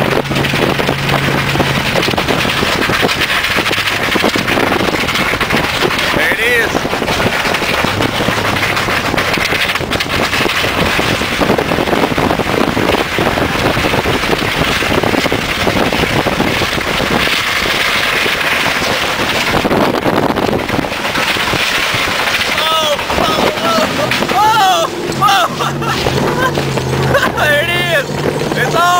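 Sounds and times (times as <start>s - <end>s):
constant rattling clatter: 0.0s - 28.9s
pickup truck engine running: 0.0s - 28.9s
wind buffeting microphone: 0.0s - 28.9s.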